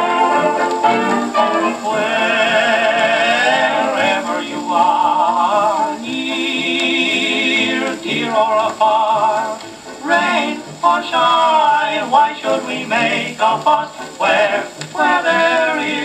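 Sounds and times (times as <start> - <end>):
dance band record on phonograph: 0.0 - 16.0.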